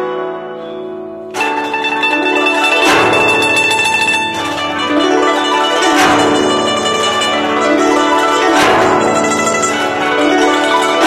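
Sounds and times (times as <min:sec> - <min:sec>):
guzheng played fast: 0:00.0 - 0:11.0.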